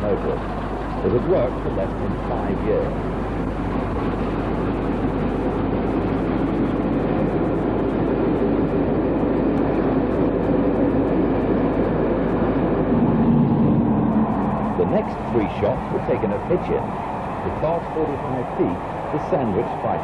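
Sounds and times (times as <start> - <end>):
locomotive rumbling: 0.0 - 20.0.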